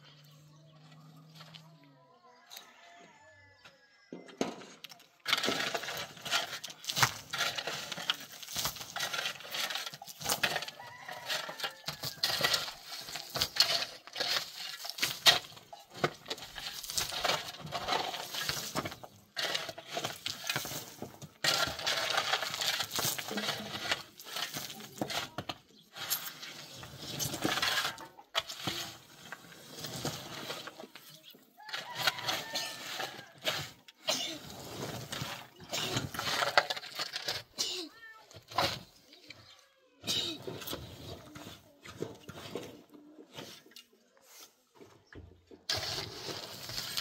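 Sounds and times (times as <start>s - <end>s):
hard objects clattering and clinking: 4.2s - 44.0s.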